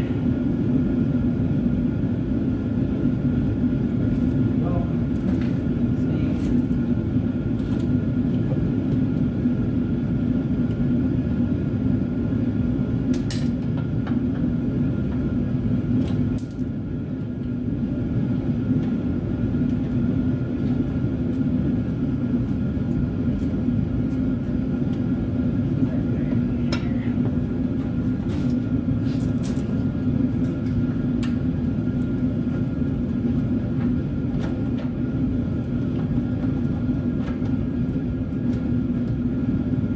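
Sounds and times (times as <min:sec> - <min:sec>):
heater rumbling: 0:00.0 - 0:39.9.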